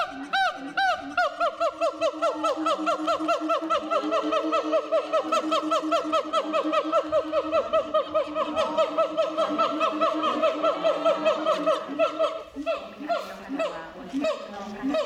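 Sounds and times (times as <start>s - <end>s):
siamang yelping calls: 0.0s - 15.0s.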